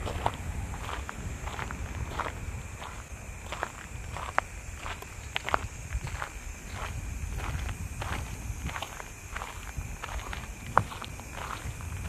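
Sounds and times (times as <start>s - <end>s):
faint steady hiss: 0.0s - 12.0s
footsteps on park path: 0.0s - 12.0s.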